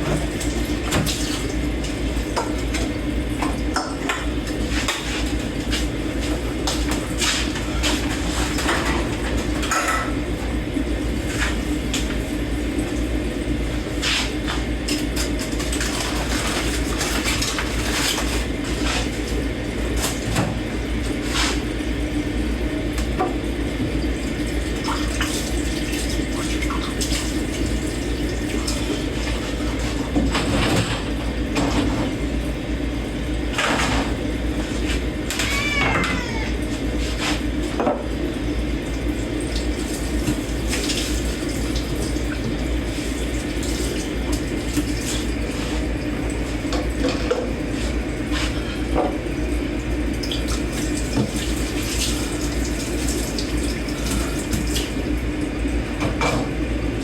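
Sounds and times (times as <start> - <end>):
water running in sink: 0.0 - 57.0.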